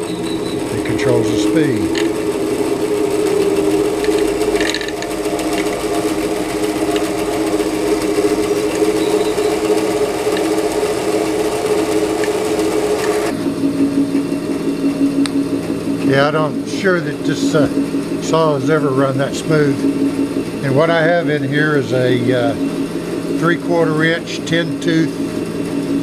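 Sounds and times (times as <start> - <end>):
bandsaw motor hum: 0.0 - 26.0.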